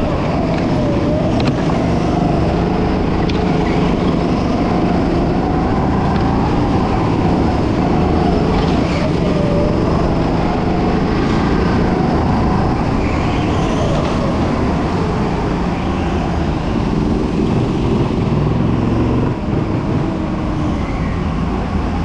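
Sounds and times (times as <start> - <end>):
go-kart engine revving: 0.0 - 21.8.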